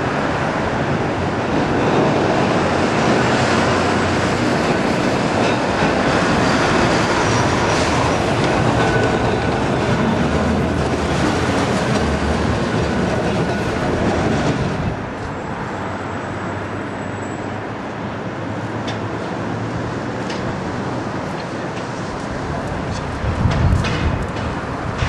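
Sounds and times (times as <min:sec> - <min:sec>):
tram wheels rumbling and clattering: 0:00.0 - 0:25.0.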